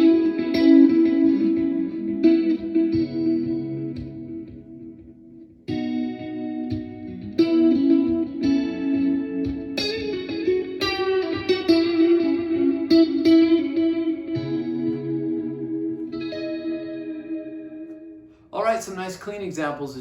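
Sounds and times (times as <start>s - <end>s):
clean electric guitar chords: 0.0s - 18.4s.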